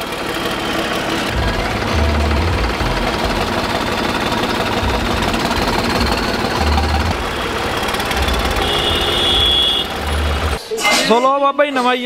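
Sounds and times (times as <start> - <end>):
tractor diesel engine running: 0.0 - 10.6.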